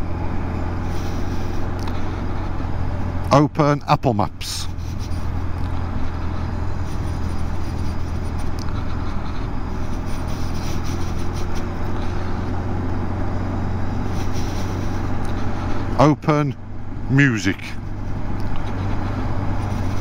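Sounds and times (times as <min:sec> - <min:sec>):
motorcycle engine humming: 0:00.0 - 0:20.0
road noise: 0:00.0 - 0:20.0.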